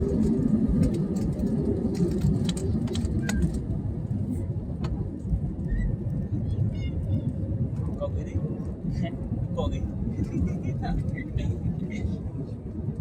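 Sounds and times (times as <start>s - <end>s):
vehicle rumbling in motion: 0.0s - 13.0s.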